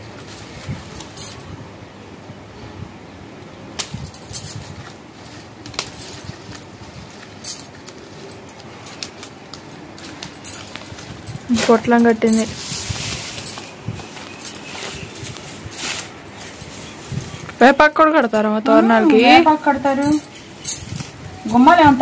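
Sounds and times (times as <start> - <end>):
light clicks and clinks: 0.0 - 1.6, 3.8 - 22.0
steady background noise: 0.0 - 22.0.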